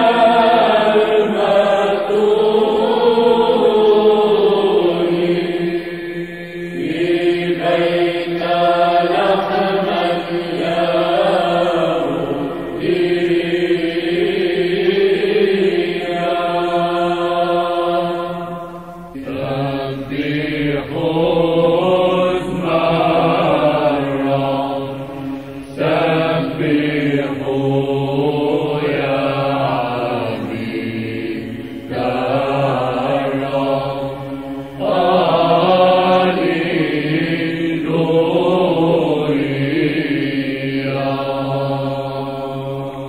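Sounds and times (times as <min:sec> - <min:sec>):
held vocal drone: 0:00.0 - 0:43.0.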